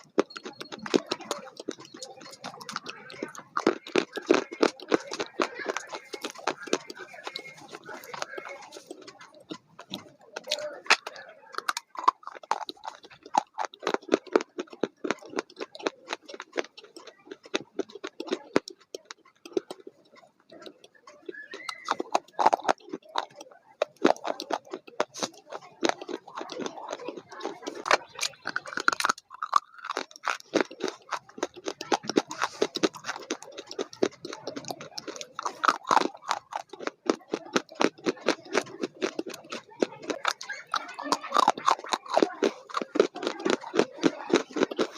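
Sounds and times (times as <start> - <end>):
chewing and crunching food: 0.0 - 44.9
mouth clicks: 0.0 - 44.9.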